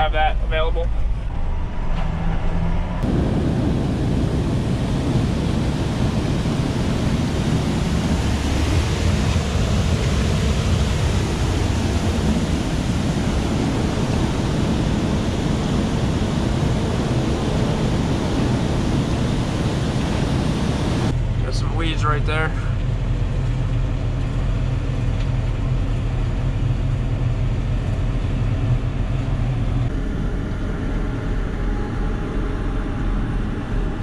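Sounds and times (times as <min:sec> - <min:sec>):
low machine rumble: 0:00.0 - 0:34.0.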